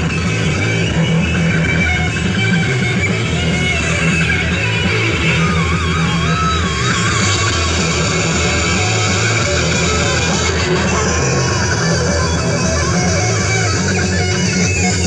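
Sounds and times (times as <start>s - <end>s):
loud music with pulsing bass: 0.0s - 15.0s
wavering high melody: 0.0s - 15.0s.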